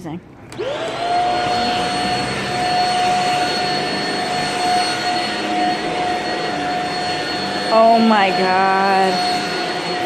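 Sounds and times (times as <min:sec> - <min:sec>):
vacuum cleaner motor whine: 0:00.5 - 0:10.0.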